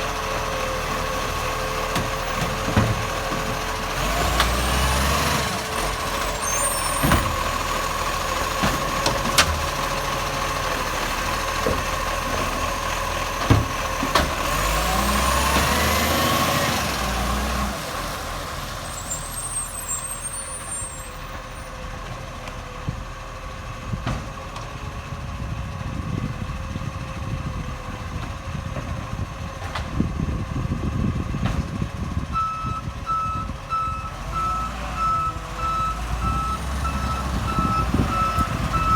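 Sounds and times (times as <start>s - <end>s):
garbage truck engine running: 0.0s - 38.9s.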